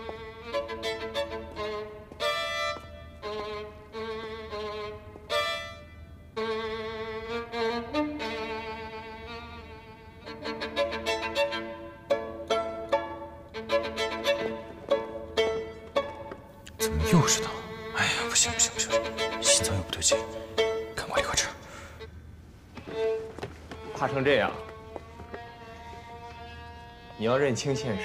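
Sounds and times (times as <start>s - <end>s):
solo violin melody: 0.0s - 28.0s.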